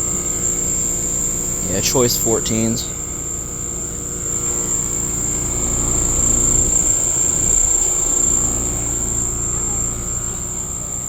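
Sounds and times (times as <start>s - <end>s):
heat pump hum and rumble: 0.0s - 11.0s
high-pitched insect drone: 0.0s - 11.0s.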